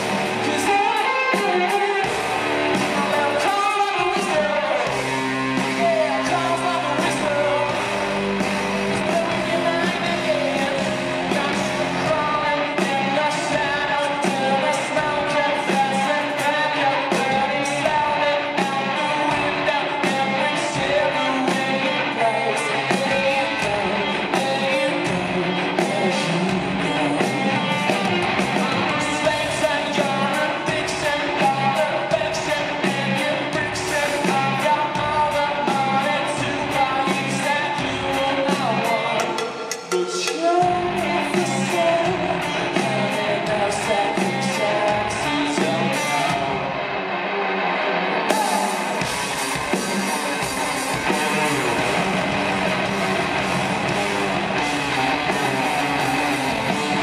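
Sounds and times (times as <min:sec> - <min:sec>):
drum kit with cymbals: 0:00.0 - 0:46.6, 0:48.3 - 0:57.0
male lead vocal: 0:00.0 - 0:57.0
electric bass: 0:02.0 - 0:39.2, 0:48.3 - 0:57.0.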